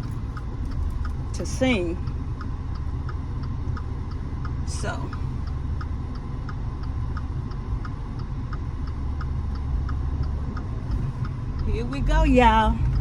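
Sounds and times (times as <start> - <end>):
car turn signal clicking: 0.0 - 11.8
car driving on road rumble: 0.0 - 13.0.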